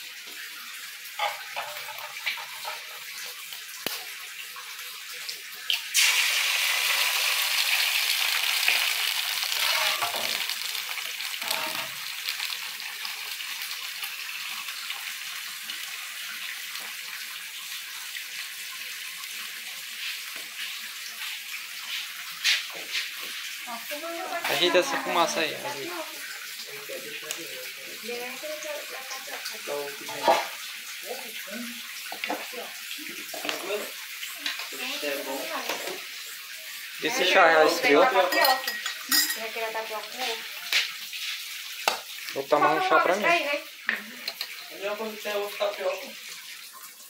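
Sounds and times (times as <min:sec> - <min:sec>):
egg sizzling in frying pan: 0:00.0 - 0:47.0.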